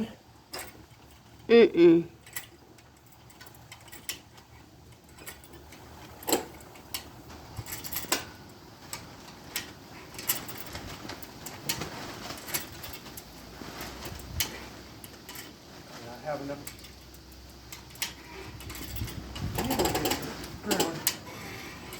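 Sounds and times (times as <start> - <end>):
hand tools clicking and knocking: 0.0 - 1.5, 2.1 - 21.9.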